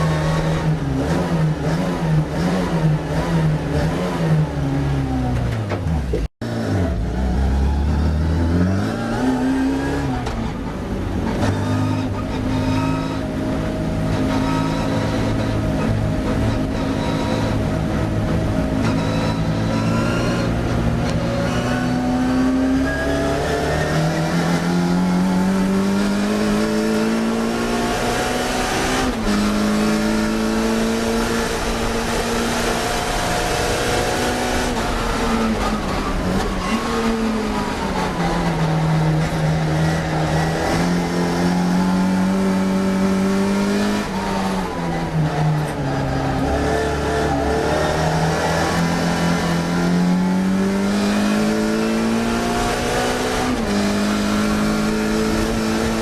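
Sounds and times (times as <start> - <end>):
racing car engine revving: 0.0 - 5.6, 6.4 - 56.0.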